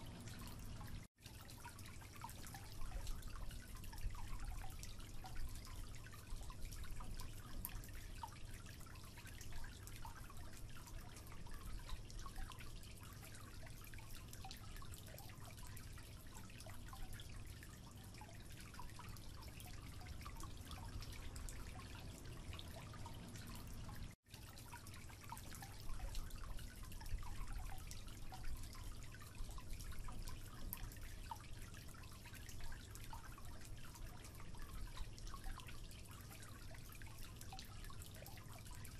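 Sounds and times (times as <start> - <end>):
water dripping into a sink: 0.0 - 38.9.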